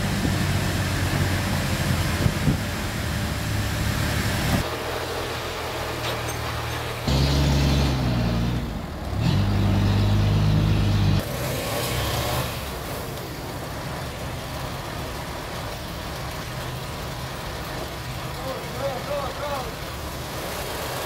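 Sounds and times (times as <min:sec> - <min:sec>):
forklift engine droning: 0:00.0 - 0:21.0.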